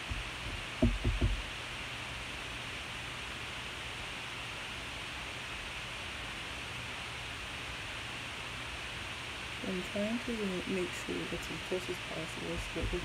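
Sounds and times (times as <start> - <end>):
faint low hum: 0.0 - 13.0
recording hiss: 0.0 - 13.0.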